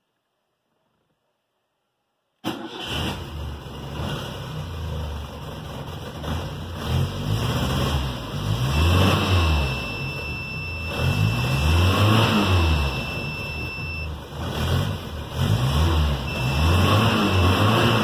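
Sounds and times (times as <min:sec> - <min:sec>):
car engine revving: 0:02.6 - 0:18.0.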